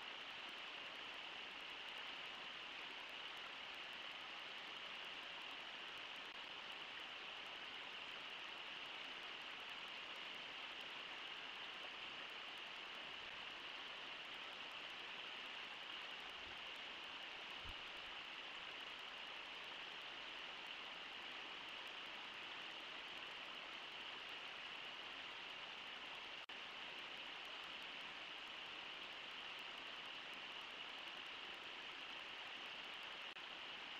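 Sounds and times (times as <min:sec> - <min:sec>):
river water rushing over riffles: 0:00.0 - 0:33.9.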